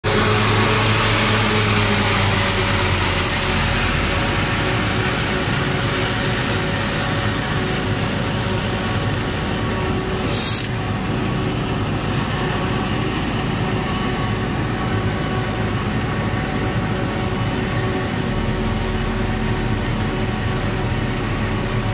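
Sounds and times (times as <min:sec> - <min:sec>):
forage harvester droning: 0:00.0 - 0:21.9.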